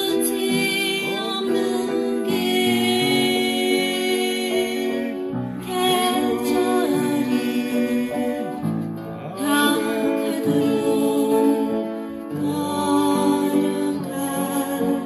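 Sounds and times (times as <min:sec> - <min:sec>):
person singing: 0:00.0 - 0:15.0
upright piano playing: 0:00.0 - 0:15.0.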